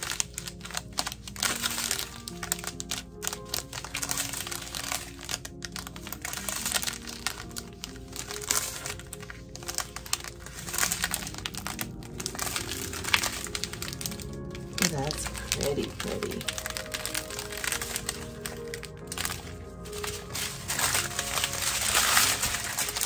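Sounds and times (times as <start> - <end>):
background music of held notes: 0.0 - 23.0
plastic bags crinkling: 0.0 - 23.0.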